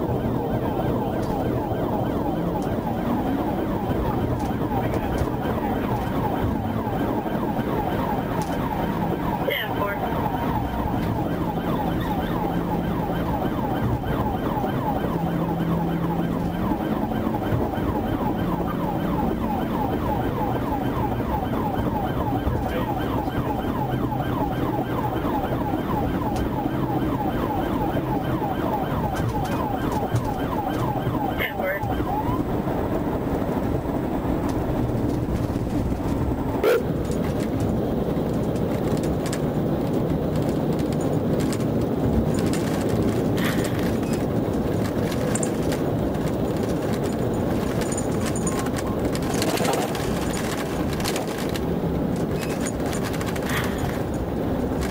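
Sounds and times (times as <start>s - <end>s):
car engine and road noise: 0.0s - 54.9s
police siren: 0.0s - 54.9s.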